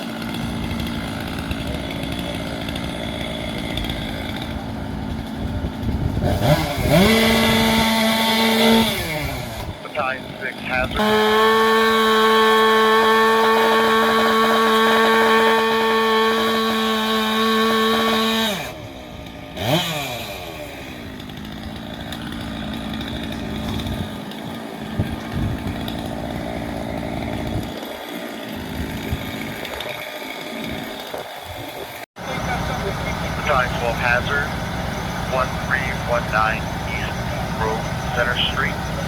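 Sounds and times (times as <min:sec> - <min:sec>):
chainsaw running: 0:00.0 - 0:39.0.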